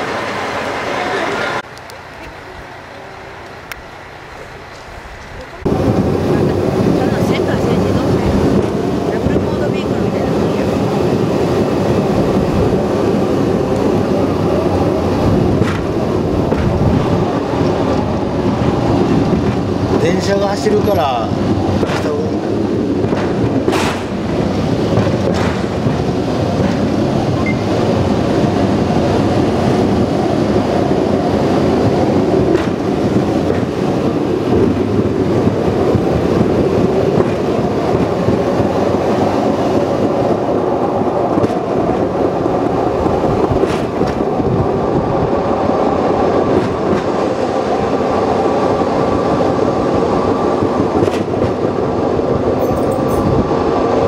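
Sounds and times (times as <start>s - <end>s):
train rolling rumble: 0.0s - 54.0s
wheels clacking on rail joints: 4.4s - 54.0s.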